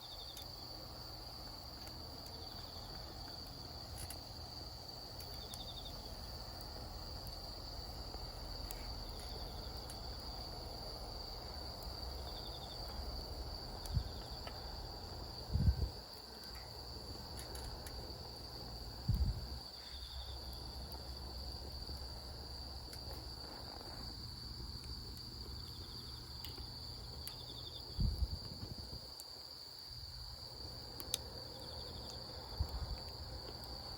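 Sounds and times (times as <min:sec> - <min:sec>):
insect chirps: 0:00.0 - 0:33.9
insects trilling: 0:00.0 - 0:33.9.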